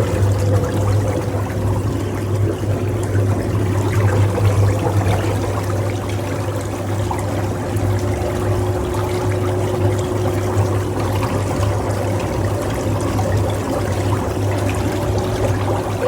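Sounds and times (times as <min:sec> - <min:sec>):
water bubbling: 0:00.0 - 0:16.0.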